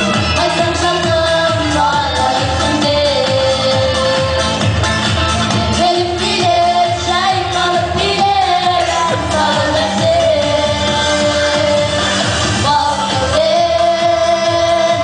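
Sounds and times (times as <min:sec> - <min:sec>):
amplified backing music with beat: 0:00.0 - 0:15.0
people singing into microphones: 0:00.0 - 0:15.0.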